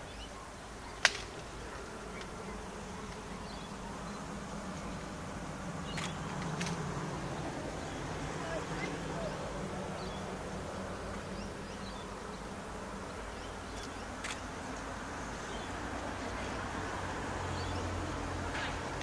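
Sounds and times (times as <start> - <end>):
diesel locomotives droning: 0.0 - 19.0.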